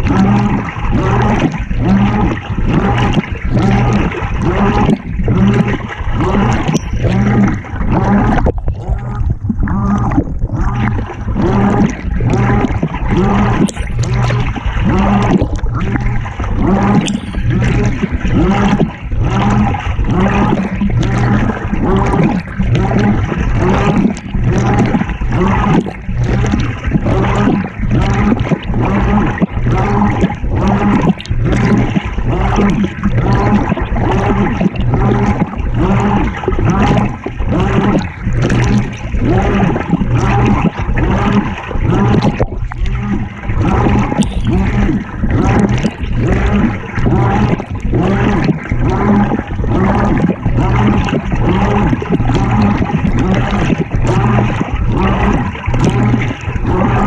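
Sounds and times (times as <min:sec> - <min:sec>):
motor hum: 0:00.0 - 0:57.0
water sloshing in washing machine: 0:00.0 - 0:57.0.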